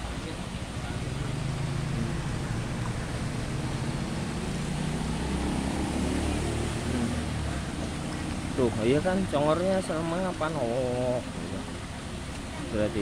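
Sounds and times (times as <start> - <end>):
water splashing in a stream: 0.0 - 13.0.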